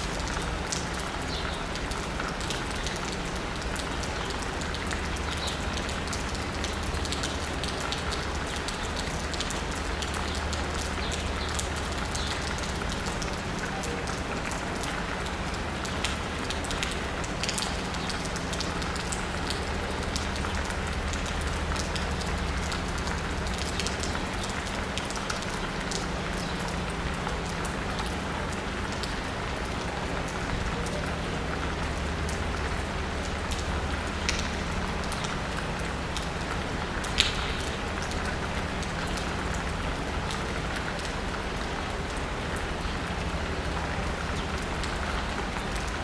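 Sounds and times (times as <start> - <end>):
rain pattering on pavement and roof: 0.0 - 46.0.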